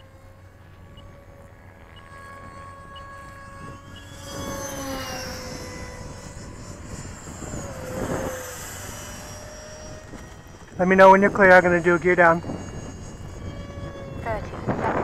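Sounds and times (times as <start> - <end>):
electric model jet whine flying past: 0.0 - 15.0.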